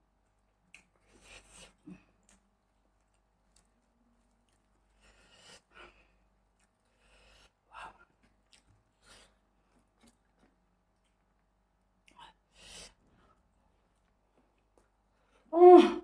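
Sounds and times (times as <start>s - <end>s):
faint chewing: 0.0s - 15.4s
soft mouth and breath noises: 0.2s - 15.5s.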